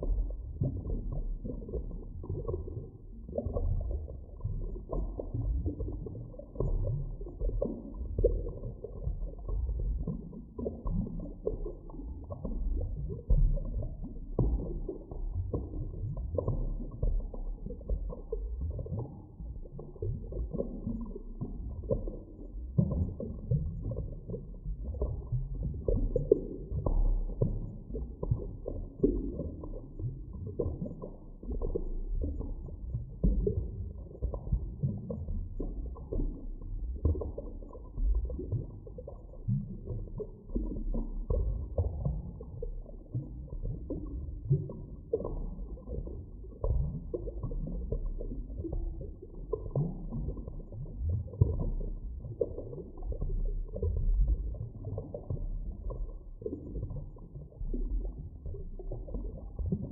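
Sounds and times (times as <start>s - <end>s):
muffled underwater rumble: 0.0s - 59.9s.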